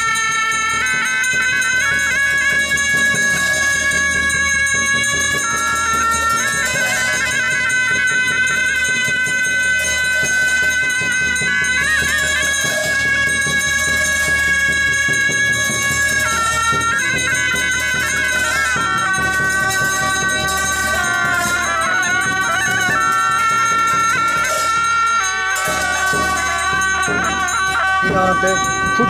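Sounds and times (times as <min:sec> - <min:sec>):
hand cymbals: 0:00.0 - 0:29.0
shawms playing long held notes: 0:00.0 - 0:29.0.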